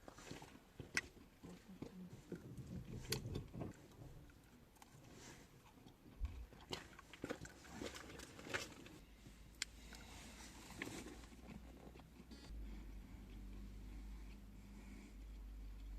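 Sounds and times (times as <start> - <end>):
crunchy chewing: 0.0 - 15.9.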